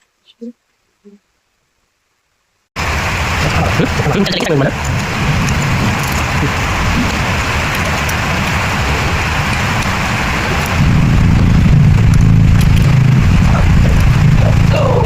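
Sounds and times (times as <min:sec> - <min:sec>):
engine humming: 0:02.8 - 0:15.0.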